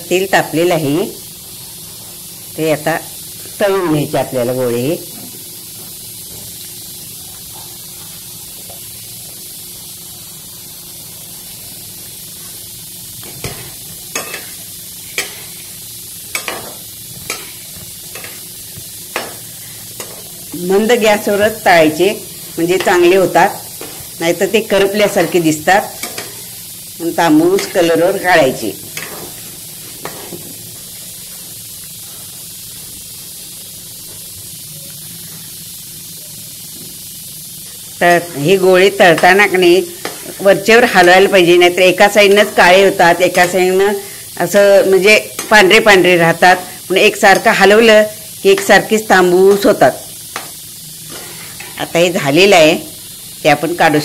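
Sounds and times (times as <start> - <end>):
dough balls sizzling in hot oil: 0.0 - 54.0.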